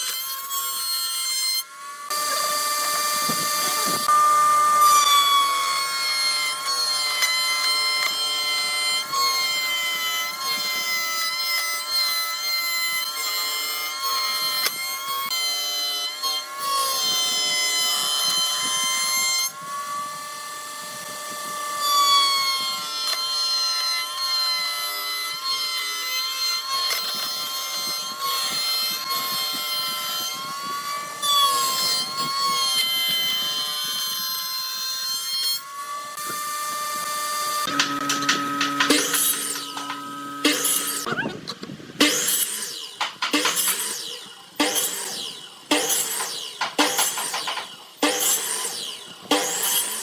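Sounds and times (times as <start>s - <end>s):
power tool cutting wood: 0.0s - 50.0s.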